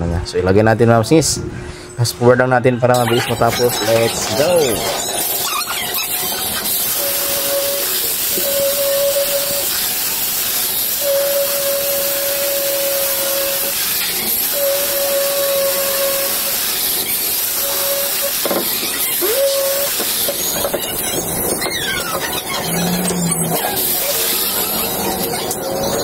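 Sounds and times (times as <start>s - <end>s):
drill cutting gypsum board hiss: 3.0s - 25.4s.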